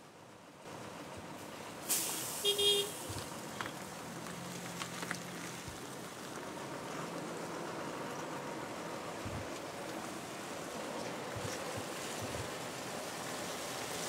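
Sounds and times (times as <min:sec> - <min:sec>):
low engine hum: 0:00.0 - 0:14.0
vehicles moving on a road: 0:00.0 - 0:14.0.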